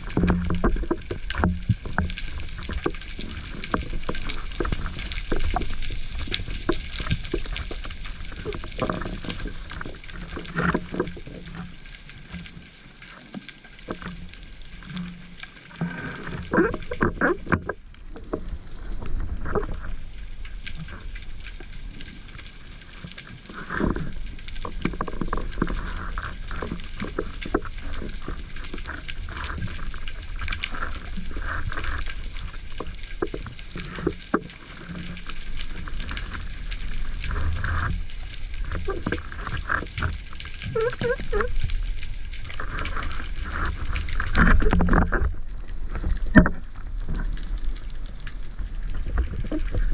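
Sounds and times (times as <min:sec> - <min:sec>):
underwater knocks and clicks: 0:00.0 - 0:49.9
underwater low rumble: 0:00.0 - 0:49.9.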